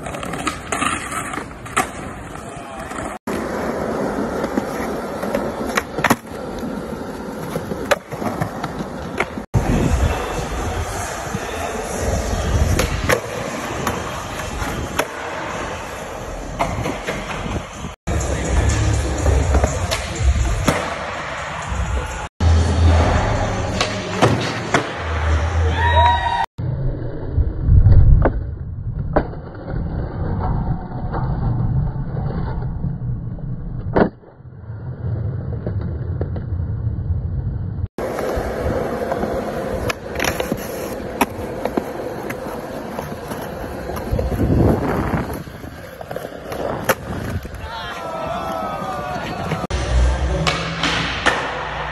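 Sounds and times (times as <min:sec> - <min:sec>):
skateboard wheels rolling on concrete: 0:00.0 - 0:26.5, 0:27.8 - 0:51.9.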